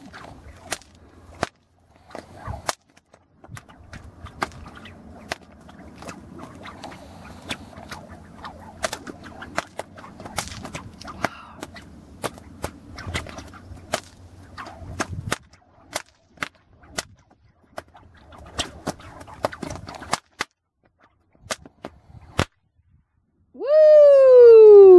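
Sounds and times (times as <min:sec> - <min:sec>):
whip cracks: 0:00.0 - 0:20.6, 0:21.4 - 0:22.6
wind noise on microphone: 0:02.0 - 0:16.0, 0:16.6 - 0:20.1, 0:21.3 - 0:24.9.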